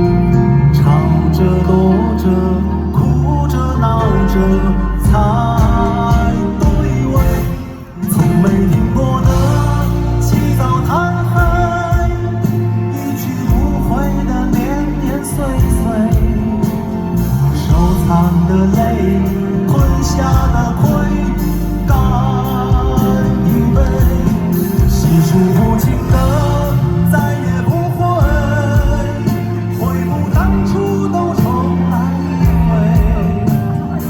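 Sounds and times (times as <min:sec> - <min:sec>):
live band playing pop song: 0:00.0 - 0:34.0
person singing: 0:00.0 - 0:34.0.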